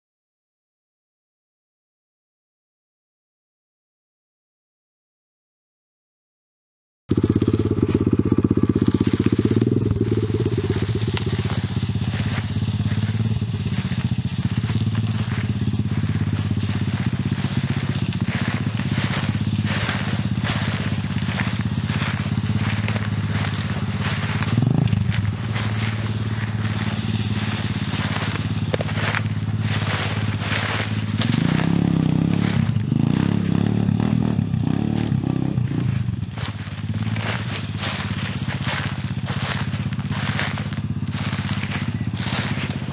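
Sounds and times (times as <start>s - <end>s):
leaves and twigs crunching: 7.1s - 42.9s
motorbike engine revving: 7.1s - 42.9s.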